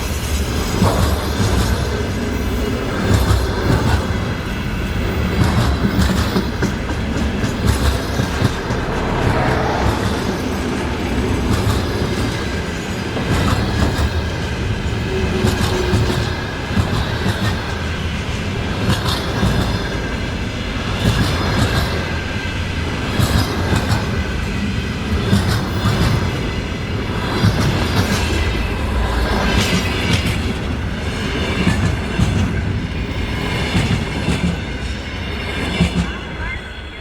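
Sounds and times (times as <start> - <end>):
train wheels clattering over rail joints: 0.0 - 36.1
train rumble: 0.0 - 37.0.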